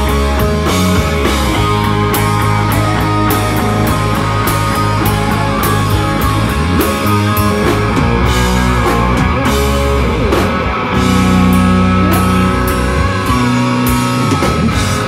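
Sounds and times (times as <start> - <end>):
bass guitar: 0.0 - 15.0
distorted electric guitars: 0.0 - 15.0
drums keeping a beat: 0.0 - 15.0.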